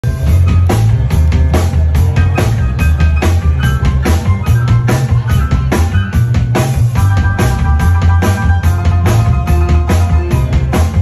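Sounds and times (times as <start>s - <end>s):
drum kit steady beat: 0.0s - 11.0s
live band playing loud music: 0.0s - 11.0s
upright double bass line: 0.0s - 11.0s.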